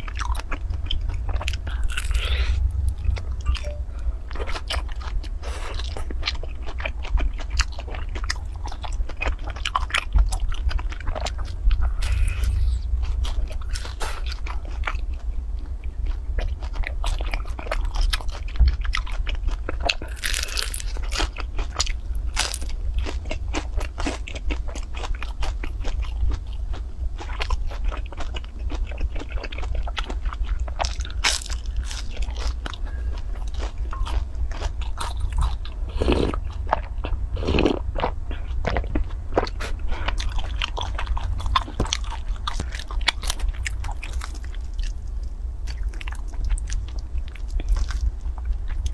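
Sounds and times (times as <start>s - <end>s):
chewing: 0.0s - 48.9s
crunchy eating: 0.0s - 48.9s
steady low hum: 0.0s - 48.9s.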